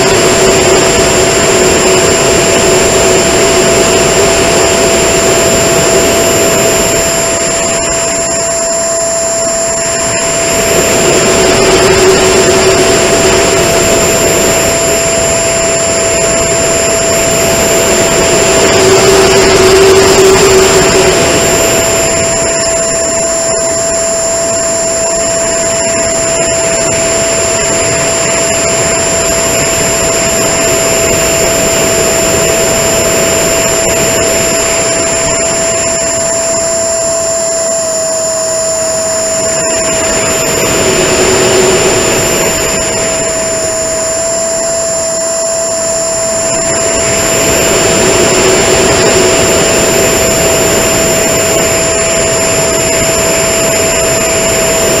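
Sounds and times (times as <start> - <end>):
air rushing over microphone: 0.0 - 55.0
electric fan whining: 0.0 - 55.0.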